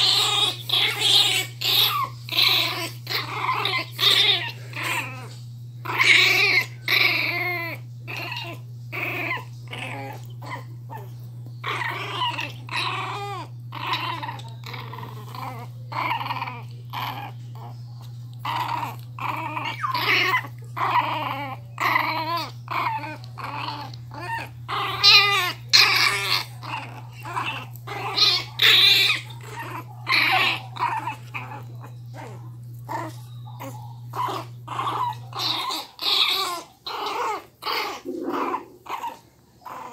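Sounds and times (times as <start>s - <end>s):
puppies play-growling: 0.0s - 39.9s.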